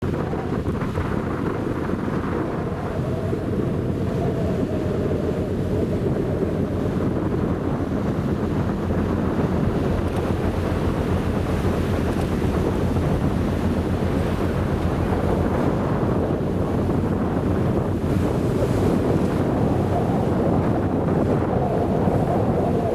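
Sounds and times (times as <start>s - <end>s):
sea water rushing along hull: 0.0s - 22.9s
wind buffeting microphone: 0.0s - 22.9s.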